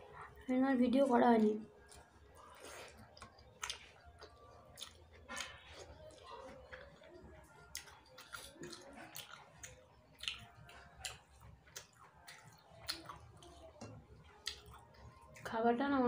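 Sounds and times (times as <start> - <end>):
person chewing: 1.7 - 15.5.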